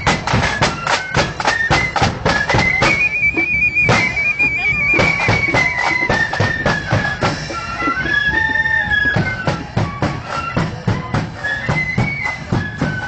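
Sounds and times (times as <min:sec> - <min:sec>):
drums beating march rhythm: 0:00.0 - 0:13.0
flutes playing high melody: 0:00.0 - 0:13.0.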